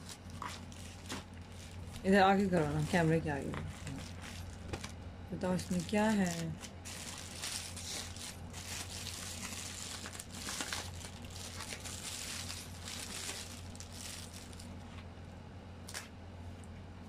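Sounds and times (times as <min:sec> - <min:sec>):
packaging crinkling and rustling: 0:00.0 - 0:05.0, 0:05.6 - 0:15.1.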